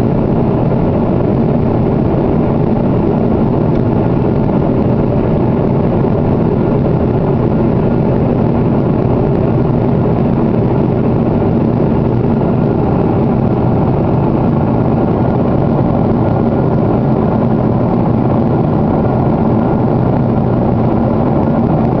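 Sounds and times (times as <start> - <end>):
airliner cabin noise: 0.0 - 22.0
low hum: 0.0 - 22.0.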